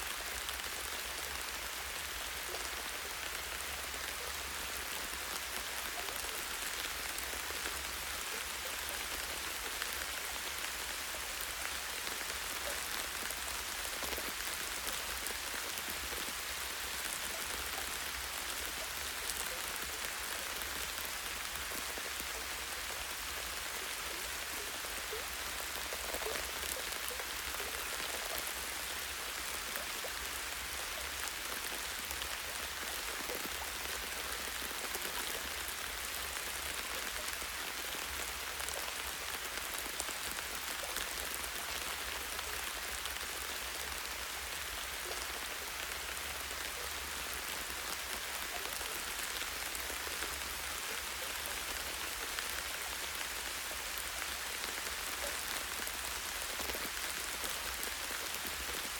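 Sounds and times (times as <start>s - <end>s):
light rain on leaves: 0.0s - 58.9s.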